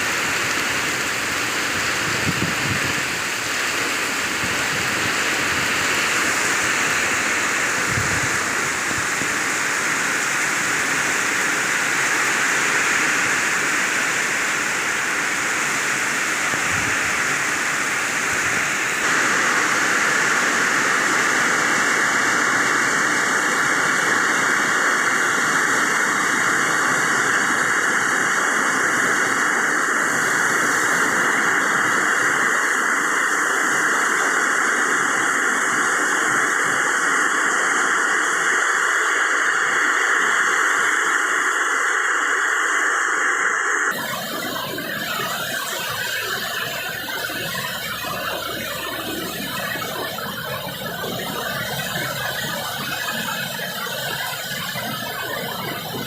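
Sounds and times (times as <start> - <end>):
heavy rain falling: 0.0 - 38.6, 43.9 - 56.0.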